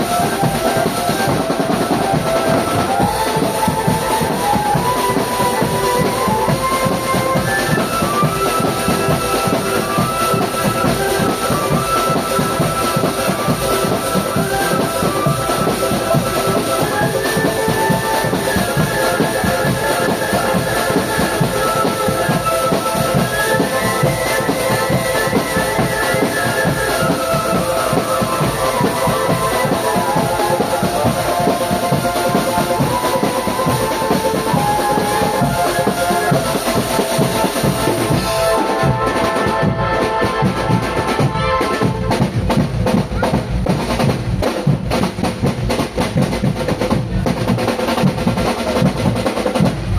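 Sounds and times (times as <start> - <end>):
marching band melody: 0.0 - 49.9
marching drums with bass drum: 0.0 - 49.9.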